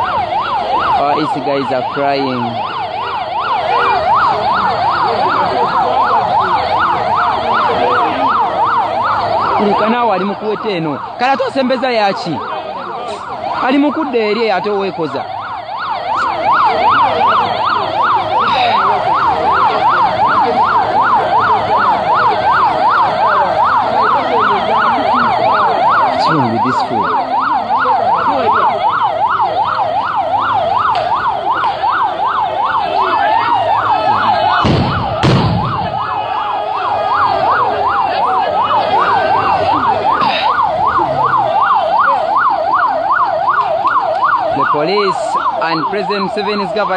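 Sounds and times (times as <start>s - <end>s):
siren yelping: 0.0s - 46.9s.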